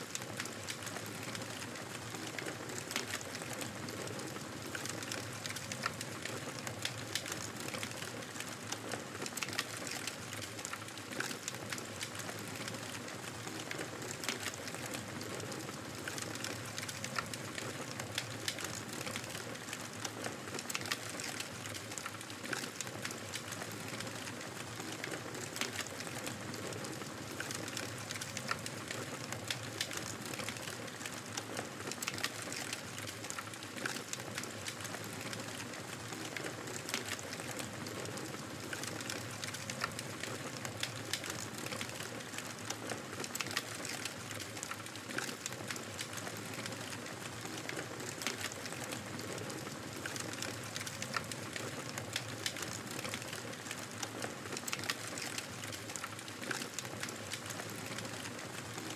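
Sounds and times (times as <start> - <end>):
fire crackling in a fireplace: 0.0 - 58.9.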